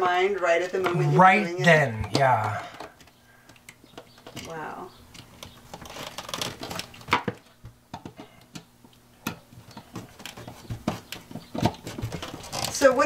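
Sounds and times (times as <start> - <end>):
faint steady hum: 0.0 - 13.0
wires clicking and rustling: 0.0 - 13.0.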